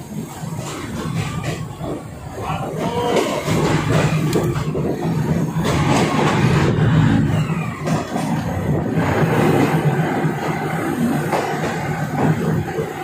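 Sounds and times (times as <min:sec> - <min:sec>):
rail and wheel noise: 0:00.0 - 0:13.0
train engine drone: 0:00.0 - 0:13.0.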